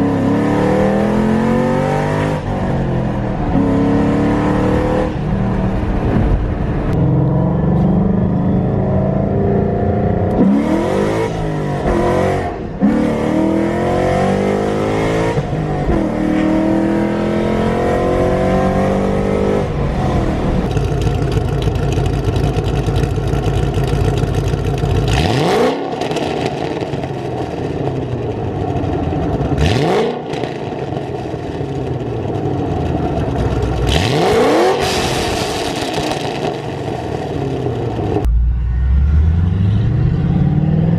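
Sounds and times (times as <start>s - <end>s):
car engine revving loudly: 0.0s - 23.2s, 23.8s - 28.1s, 29.4s - 31.6s, 33.4s - 38.3s.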